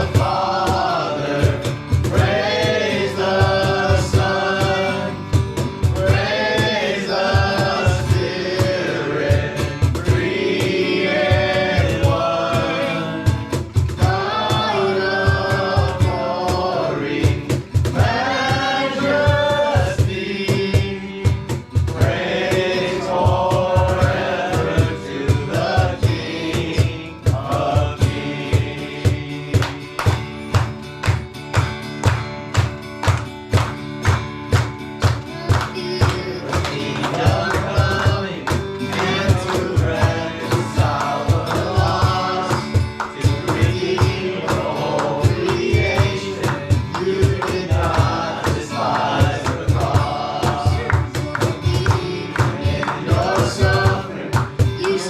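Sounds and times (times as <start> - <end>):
band playing: 0.0 - 55.0
voices singing gospel song: 0.0 - 55.0.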